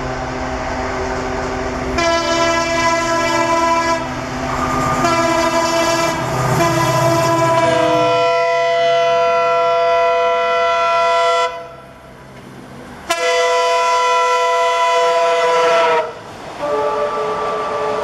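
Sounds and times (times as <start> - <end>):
locomotive air horn blasts: 1.9 - 11.9, 13.1 - 18.0.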